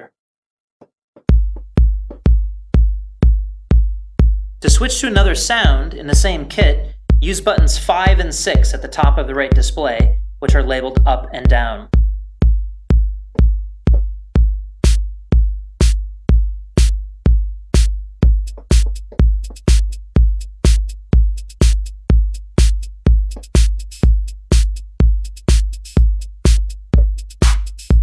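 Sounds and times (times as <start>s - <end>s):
kick drum beat: 1.2s - 28.0s
hi-hat hits: 1.3s - 10.8s, 11.9s - 28.0s.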